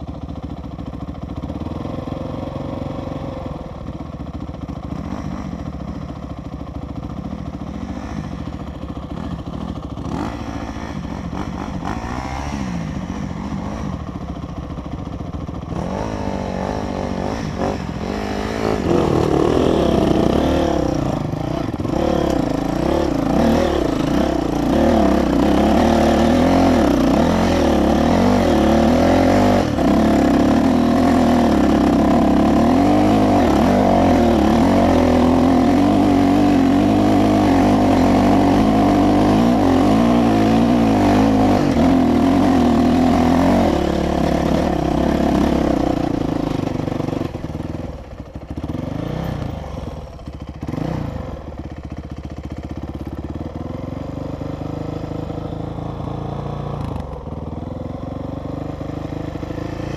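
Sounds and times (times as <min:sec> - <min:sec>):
dirt bike engine revving: 0:07.2 - 0:59.9.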